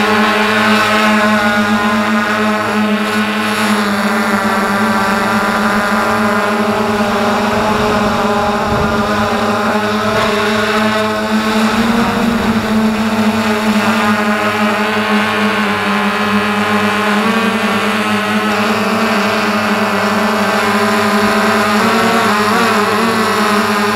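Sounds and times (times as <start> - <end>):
model aircraft propellers buzzing: 0.0 - 23.9.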